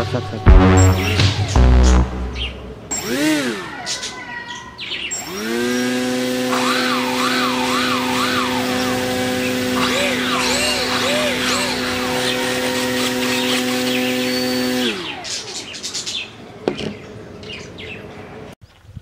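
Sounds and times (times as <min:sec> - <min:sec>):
electric propeller motor whine: 0:00.6 - 0:16.7
birds chirping: 0:00.8 - 0:18.5.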